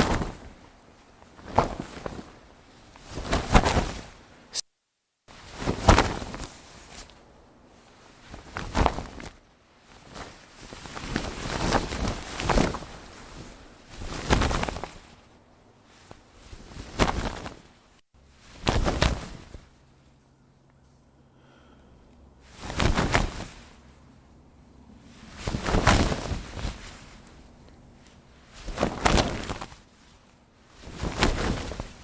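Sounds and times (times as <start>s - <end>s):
sail cloth flapping: 0.0s - 4.6s, 5.3s - 20.2s, 22.4s - 32.0s.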